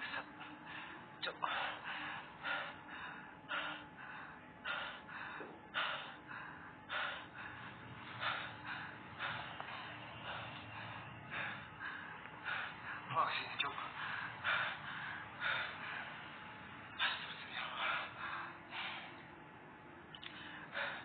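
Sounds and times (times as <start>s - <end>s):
person breathing hard: 0.0s - 21.0s.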